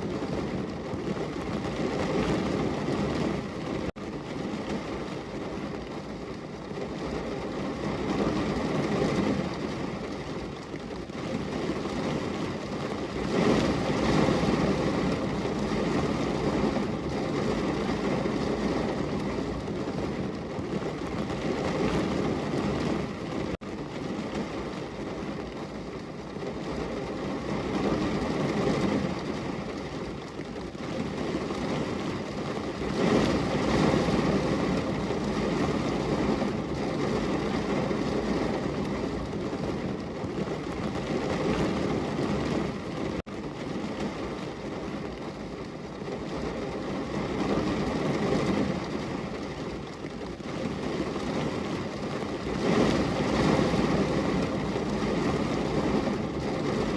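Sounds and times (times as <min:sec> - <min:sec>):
heavy rain on a window: 0:00.0 - 0:56.9.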